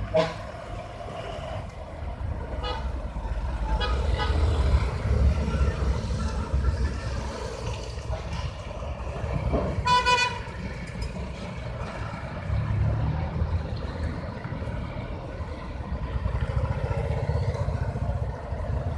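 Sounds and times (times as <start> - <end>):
diesel engines running: 0.0 - 18.9.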